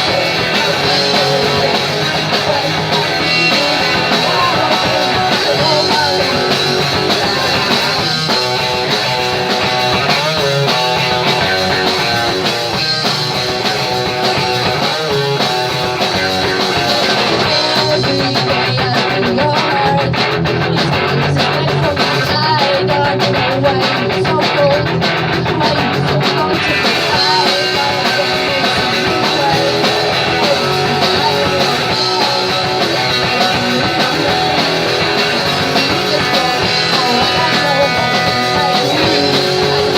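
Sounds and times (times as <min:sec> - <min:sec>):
electric guitar: 0:00.0 - 0:39.9
punk rock band playing live: 0:00.0 - 0:39.9.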